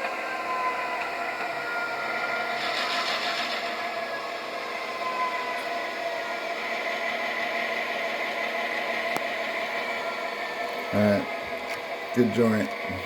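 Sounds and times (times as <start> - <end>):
model train motor whining: 0.0 - 13.0.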